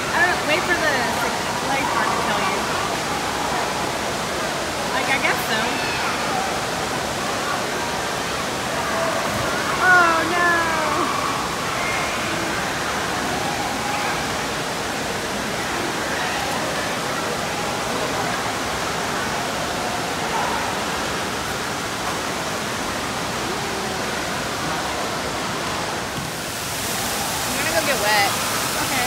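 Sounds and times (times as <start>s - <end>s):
running and splashing water: 0.0s - 29.0s.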